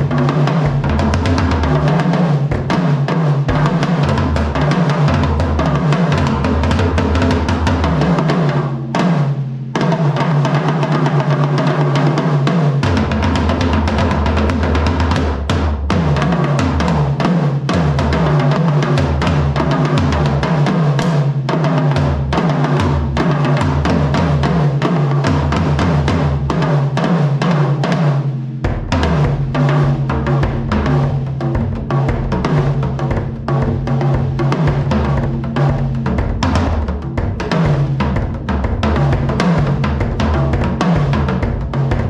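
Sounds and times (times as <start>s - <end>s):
drum kit playing groove: 0.0s - 42.0s.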